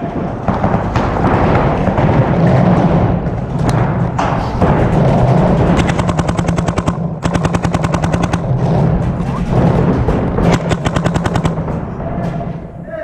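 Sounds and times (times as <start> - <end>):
paintball markers firing: 0.2 - 12.4.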